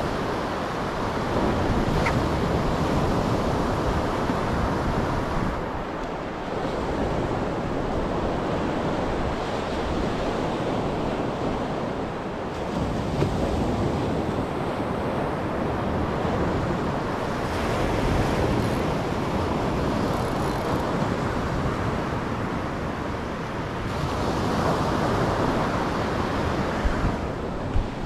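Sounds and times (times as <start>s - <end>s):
surf breaking on a beach: 0.0s - 28.0s
wind buffeting microphone: 0.0s - 28.0s.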